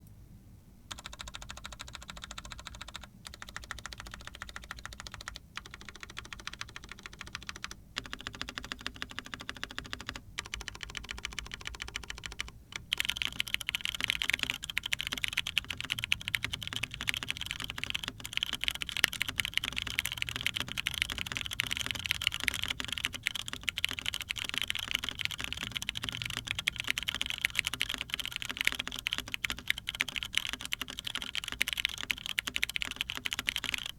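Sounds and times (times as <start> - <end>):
mechanical keyboard typing: 0.9 - 33.9.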